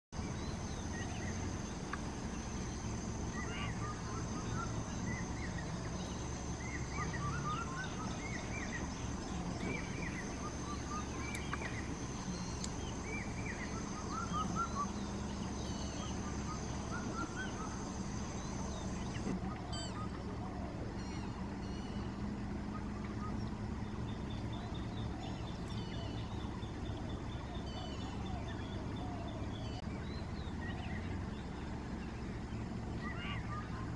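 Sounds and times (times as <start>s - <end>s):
bird chirps: 0.2s - 33.9s
insect drone: 0.2s - 33.9s
low steady hum: 0.2s - 33.9s.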